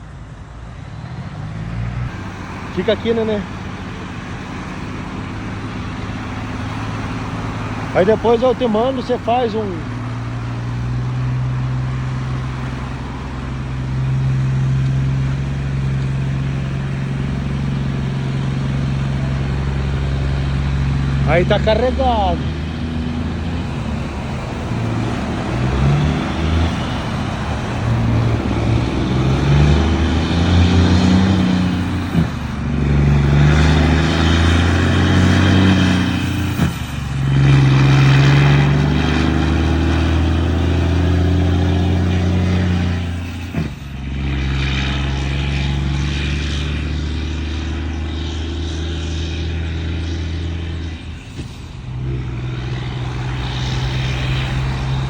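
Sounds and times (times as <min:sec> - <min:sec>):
diesel truck engine pulling: 0:00.0 - 0:55.0.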